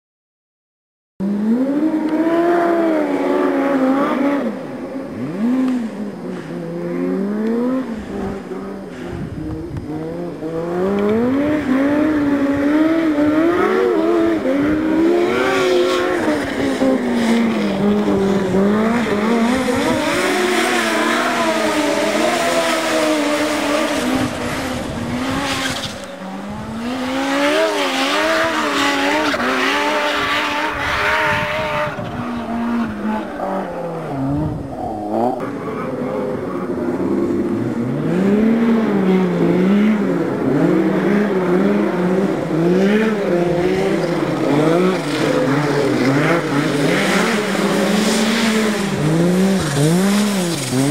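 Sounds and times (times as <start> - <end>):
snowmobile engine revving: 5.2 - 9.1, 9.9 - 50.9.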